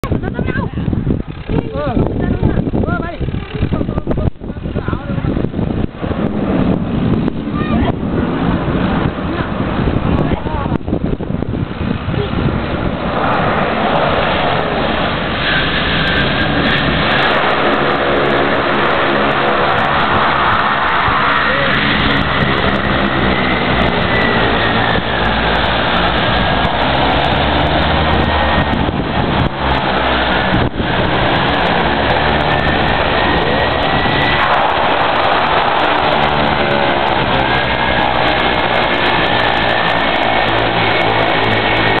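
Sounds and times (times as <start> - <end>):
turboprop engines and propellers: 0.0 - 42.0.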